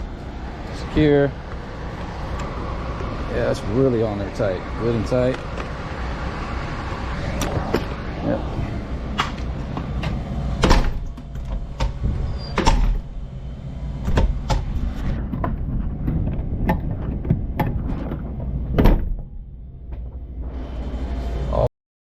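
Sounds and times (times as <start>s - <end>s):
steady low rumble: 0.0s - 21.4s.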